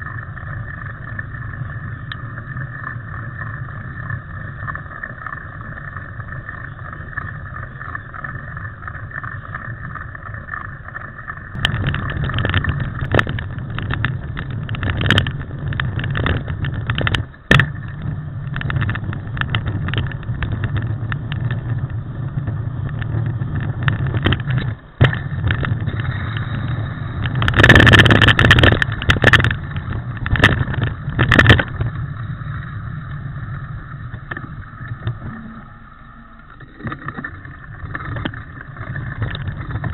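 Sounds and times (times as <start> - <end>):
bike knocks and rattles: 0.0 - 35.8, 36.6 - 39.9
wind and tyre noise: 0.0 - 39.9.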